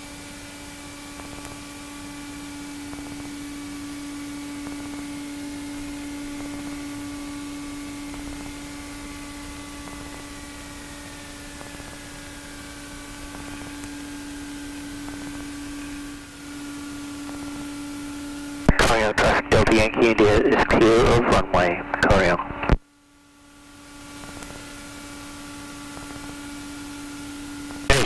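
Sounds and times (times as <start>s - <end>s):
aircraft engine and propeller hum: 0.0s - 28.0s.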